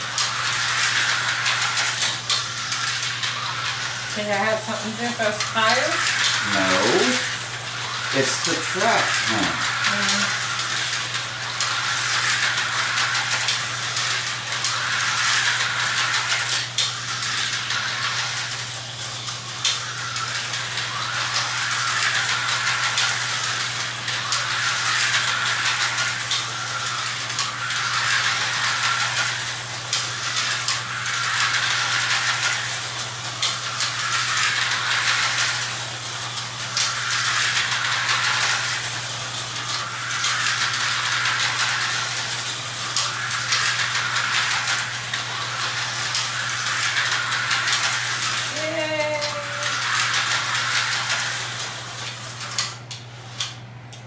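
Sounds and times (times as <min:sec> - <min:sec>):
slot cars whirring and rattling: 0:00.0 - 0:53.7.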